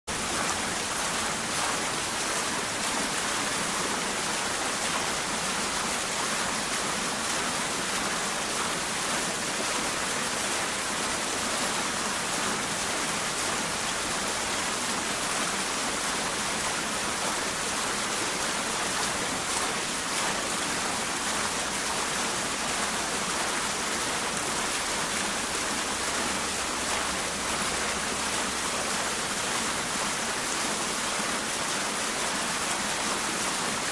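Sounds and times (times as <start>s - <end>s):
fountain water splashing: 0.1s - 33.9s.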